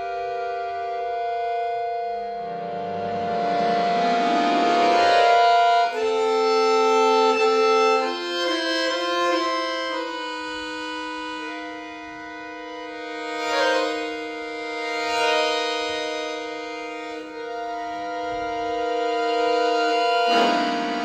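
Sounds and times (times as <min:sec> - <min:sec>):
accordion playing: 0:00.0 - 0:21.0.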